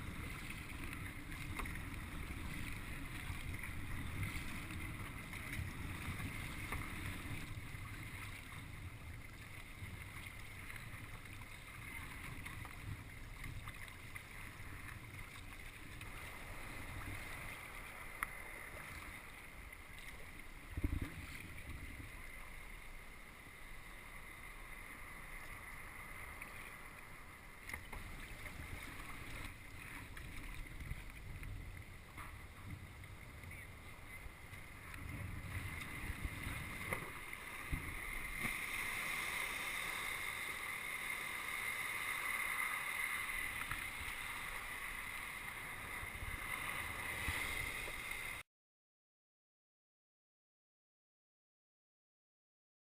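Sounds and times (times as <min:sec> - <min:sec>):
water splashing around kayak: 0:00.0 - 0:48.4.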